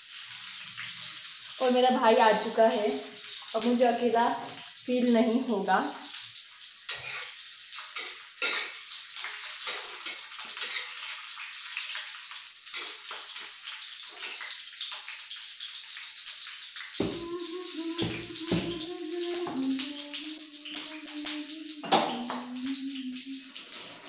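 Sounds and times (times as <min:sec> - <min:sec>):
oil sizzling in a pan: 0:00.0 - 0:24.0.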